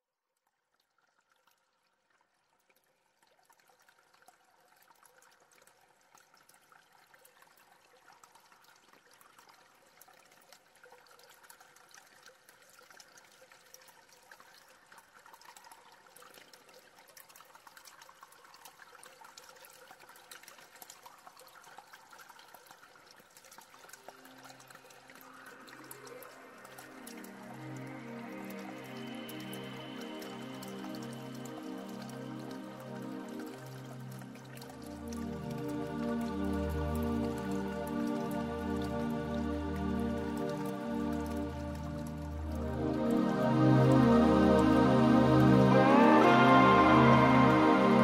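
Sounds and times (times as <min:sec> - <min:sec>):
trickling water: 0:00.3 - 0:48.0.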